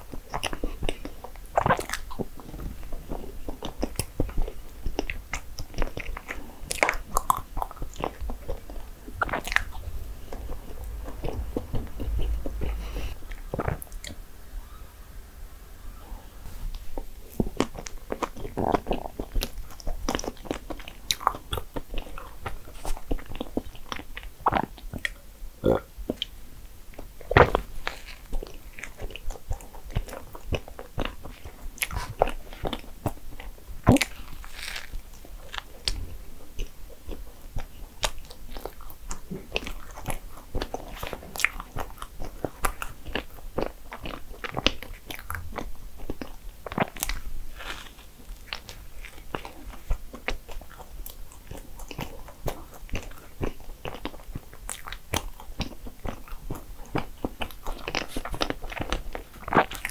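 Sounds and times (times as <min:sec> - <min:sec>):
person crunching while chewing: 0:00.1 - 0:14.2, 0:16.8 - 0:26.3, 0:27.0 - 0:59.9.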